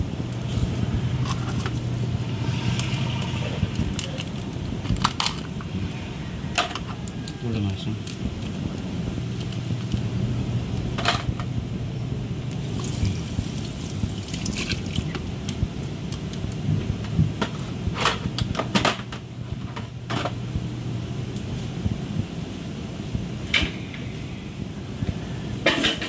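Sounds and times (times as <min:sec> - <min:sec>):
electric fan hum: 0:00.0 - 0:26.0.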